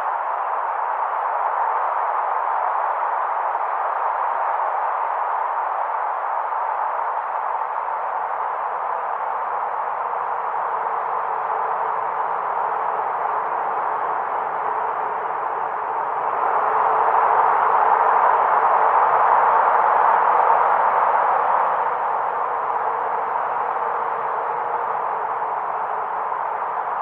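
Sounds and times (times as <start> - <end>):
wind blowing with faint whistling: 0.0 - 27.0.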